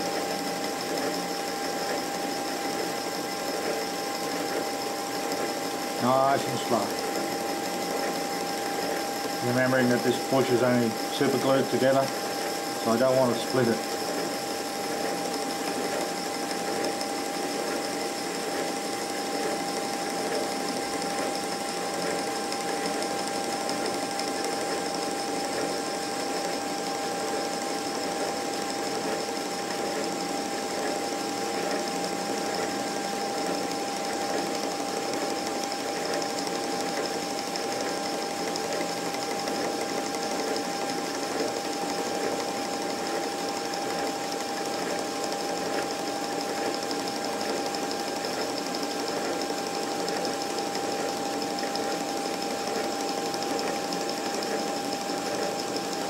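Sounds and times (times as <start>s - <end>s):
metal lathe whirring: 0.0s - 56.0s.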